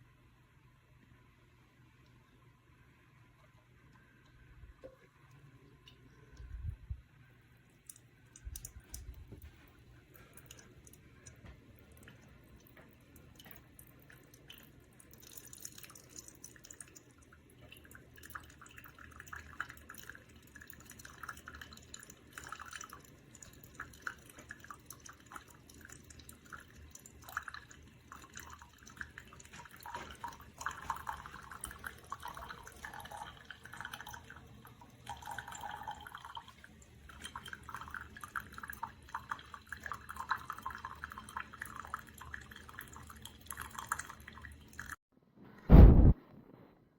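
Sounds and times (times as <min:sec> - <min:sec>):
coffee maker brewing: 0:01.8 - 0:45.0
coffee dripping into a cup: 0:03.3 - 0:06.6, 0:07.5 - 0:45.0.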